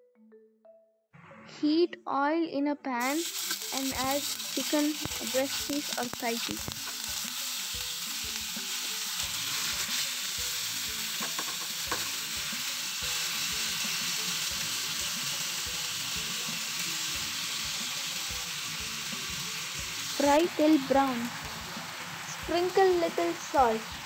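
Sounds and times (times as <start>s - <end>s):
chicken sizzling in hot oil: 3.0s - 24.0s.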